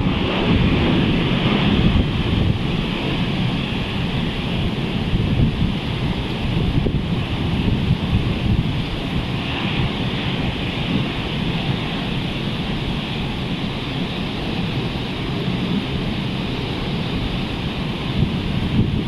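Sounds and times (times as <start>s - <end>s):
surf breaking on a beach: 0.0s - 19.0s
wind rumbling on microphone: 0.0s - 19.0s.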